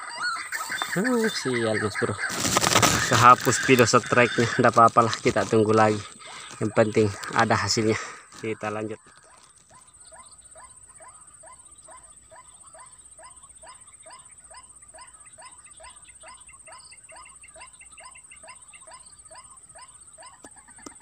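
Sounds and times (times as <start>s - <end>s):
bird call recording: 0.0s - 21.0s.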